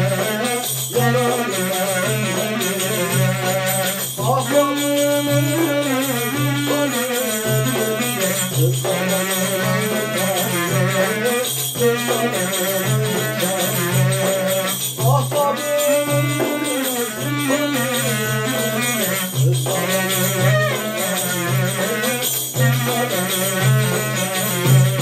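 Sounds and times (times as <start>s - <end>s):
man singing: 0.0s - 25.0s
tambourine rhythm: 0.0s - 25.0s.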